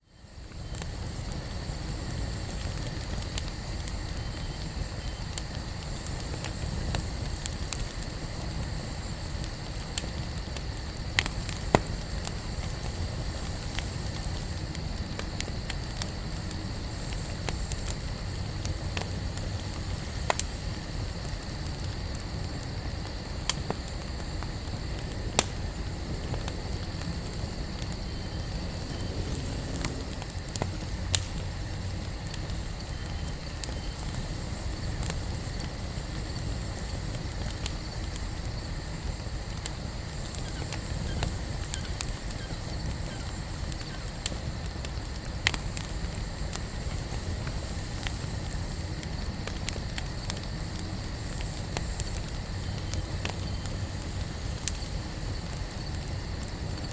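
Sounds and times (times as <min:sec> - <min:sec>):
campfire crackling and popping: 0:00.1 - 0:56.9.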